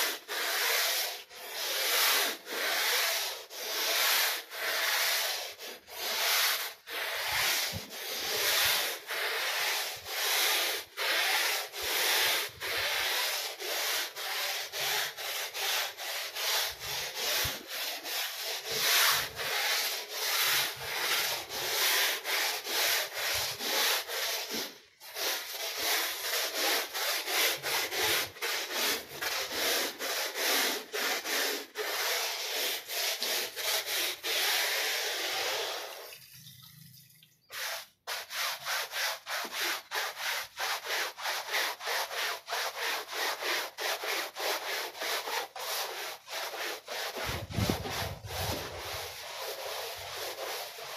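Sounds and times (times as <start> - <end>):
brush scrubbing wet rug: 0.0 - 36.8, 37.5 - 50.9.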